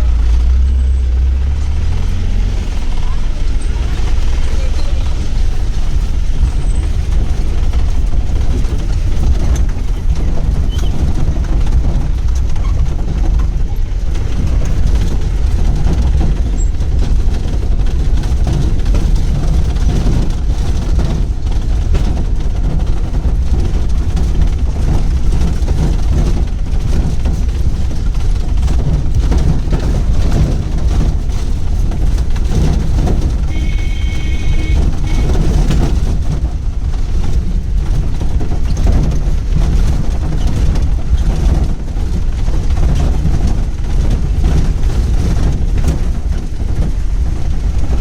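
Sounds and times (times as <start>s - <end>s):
vehicle engine and wheels rumbling: 0.0s - 48.0s
vehicle rattling and knocking: 0.0s - 48.0s.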